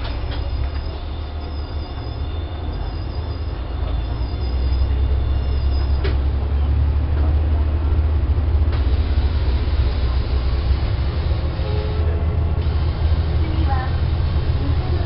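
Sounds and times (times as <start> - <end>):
diesel railcar engine hum: 0.0 - 15.0.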